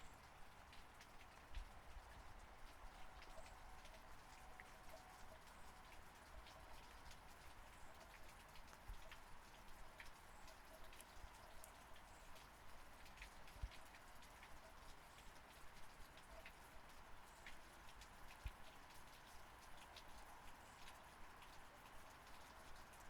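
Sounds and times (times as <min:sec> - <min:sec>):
faint steady rain: 0:00.0 - 0:23.0
raindrops ticking on a surface: 0:00.0 - 0:23.0.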